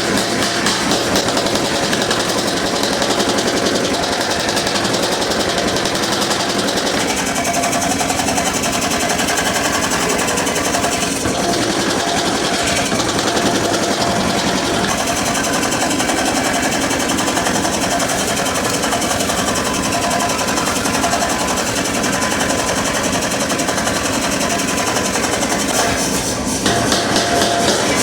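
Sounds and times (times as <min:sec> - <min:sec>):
power hammer pounding steel: 0:00.0 - 0:28.0.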